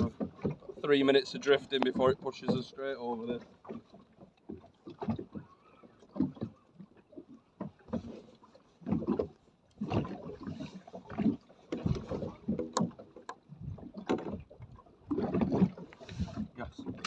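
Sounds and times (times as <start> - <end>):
sea slapping against boat hull: 0.0 - 17.0.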